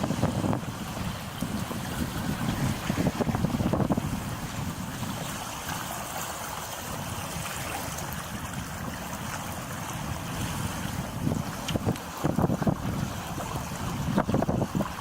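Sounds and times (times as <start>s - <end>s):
water rushing along boat hull: 0.0s - 15.0s
wind buffeting microphone: 0.0s - 15.0s.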